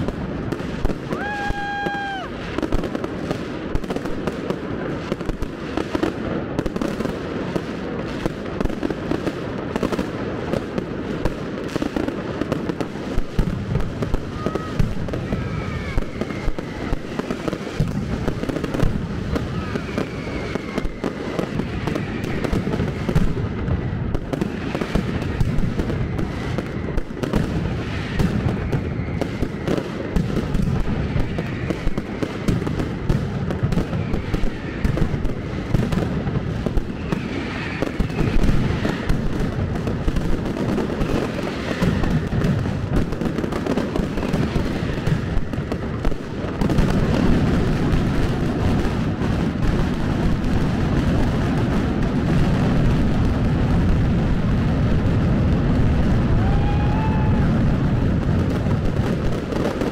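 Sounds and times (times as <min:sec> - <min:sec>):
firecrackers banging: 0:00.0 - 0:59.9.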